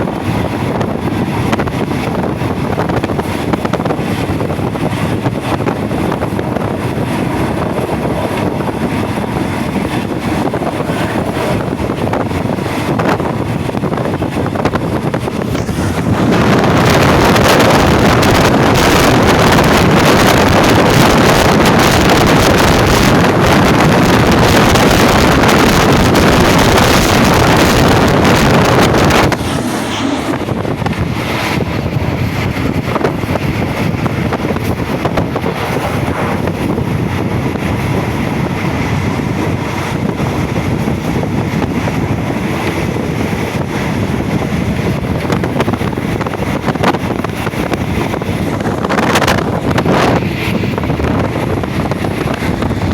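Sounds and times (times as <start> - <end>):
train coach rumbling: 0.0 - 52.9
wind on microphone: 0.0 - 52.9.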